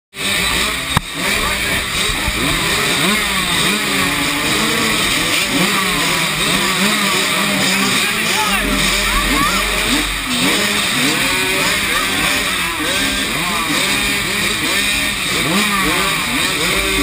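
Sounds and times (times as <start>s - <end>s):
dirt bike engines revving: 0.2s - 17.0s.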